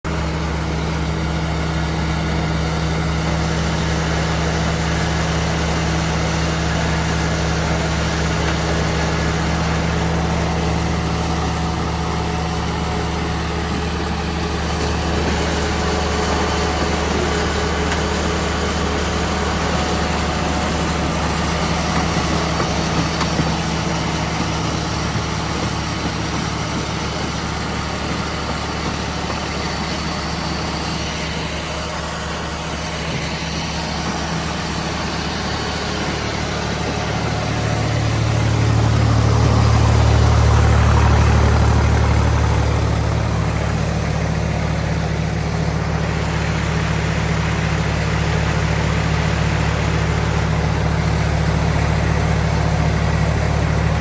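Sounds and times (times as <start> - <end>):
harvester engine running: 0.0 - 54.0.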